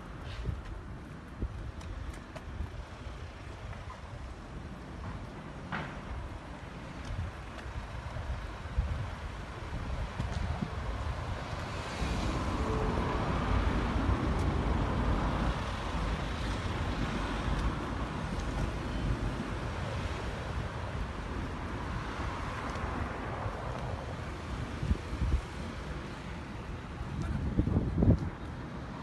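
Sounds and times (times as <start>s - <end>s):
street traffic: 0.0s - 29.0s
wind buffeting microphone: 0.0s - 29.0s.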